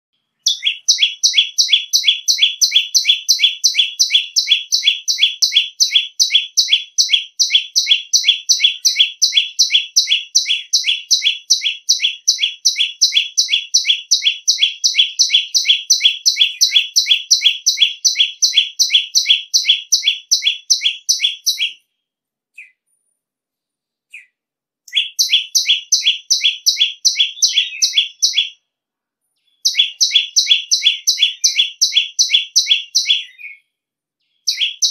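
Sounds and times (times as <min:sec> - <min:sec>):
bird shrill repeated call: 0:00.4 - 0:21.8, 0:24.9 - 0:28.6, 0:29.6 - 0:33.6, 0:34.4 - 0:34.9.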